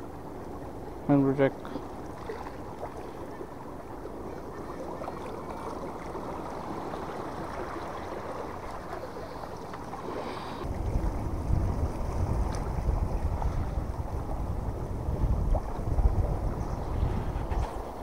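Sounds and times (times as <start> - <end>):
waves sloshing over rocks: 0.0 - 18.0.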